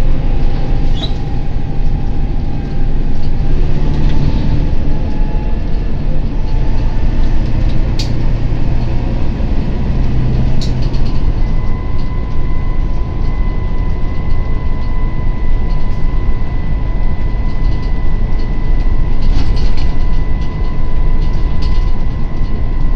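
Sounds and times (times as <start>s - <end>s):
bus diesel engine: 0.0s - 22.9s
road rumble: 0.0s - 22.9s.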